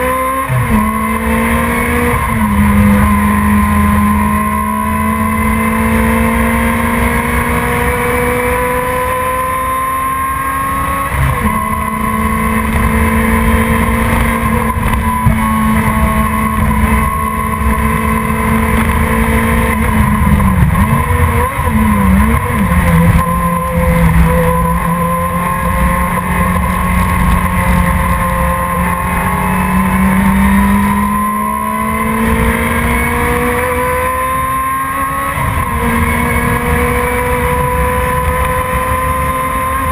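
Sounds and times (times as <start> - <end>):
sports car engine racing: 0.0 - 39.9.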